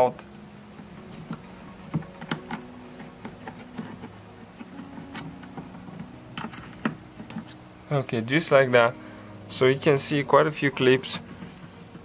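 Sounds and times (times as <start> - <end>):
faint buzzing hum: 0.0 - 12.0.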